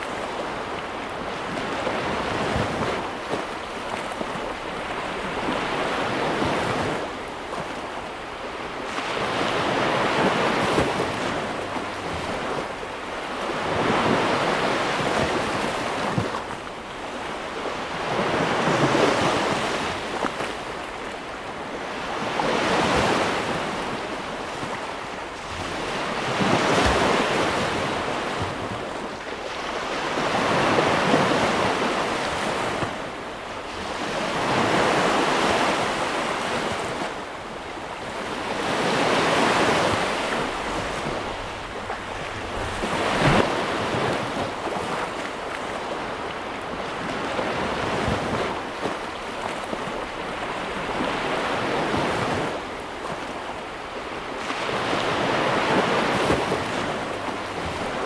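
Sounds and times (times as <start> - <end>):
sea waves breaking on shore: 0.0 - 58.0
wind noise on microphone: 0.0 - 58.0.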